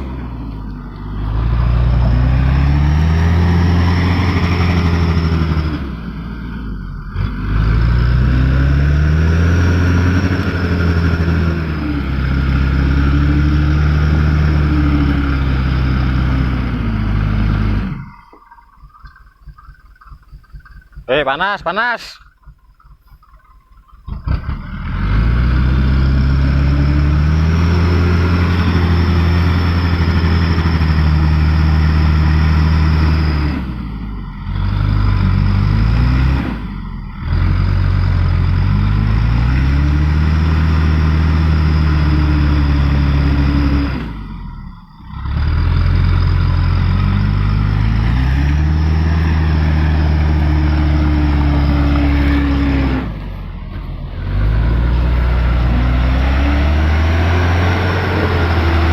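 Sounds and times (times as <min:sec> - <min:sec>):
truck diesel engine revving: 0:00.0 - 0:58.9.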